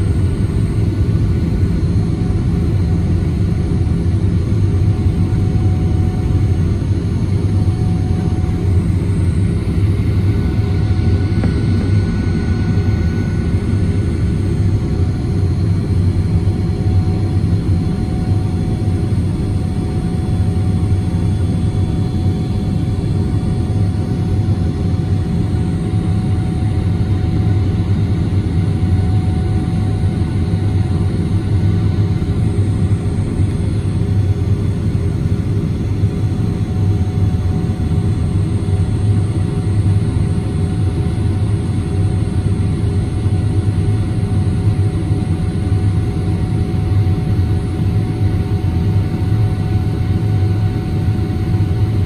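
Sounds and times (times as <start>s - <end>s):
airplane cabin engine rumble: 0.0s - 52.0s.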